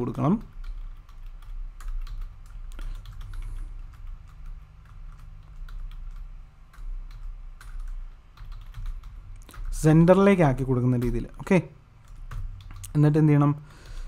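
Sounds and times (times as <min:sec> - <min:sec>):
keyboard typing: 0:00.0 - 0:14.0.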